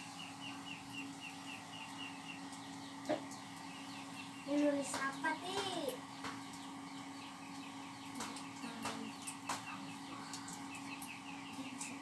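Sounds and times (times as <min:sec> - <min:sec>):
small bird chirping: 0:00.0 - 0:12.0
steady low hum: 0:00.0 - 0:12.0.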